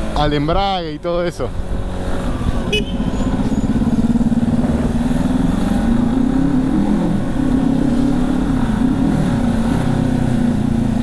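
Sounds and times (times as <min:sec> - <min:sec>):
motorcycle engine running: 0:00.0 - 0:11.0
road and wind rumble: 0:00.0 - 0:11.0.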